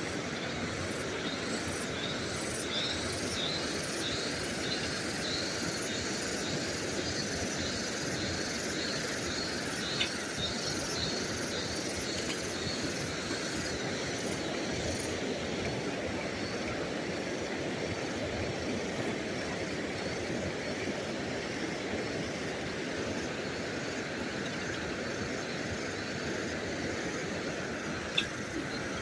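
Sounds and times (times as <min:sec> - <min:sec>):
fast-flowing river water: 0:00.0 - 0:29.0.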